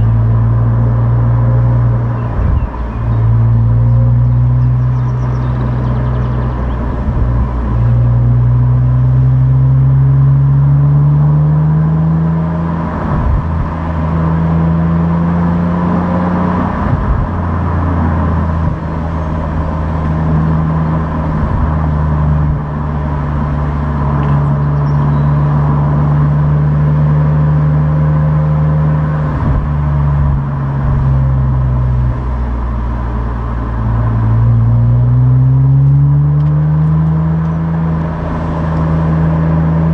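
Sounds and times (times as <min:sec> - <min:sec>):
car engine under load: 0:00.0 - 0:39.9.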